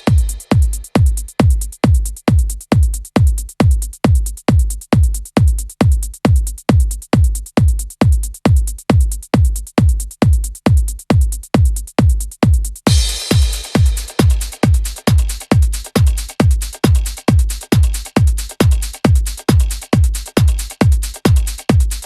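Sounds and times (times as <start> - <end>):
trance kick drum: 0.0 - 22.0.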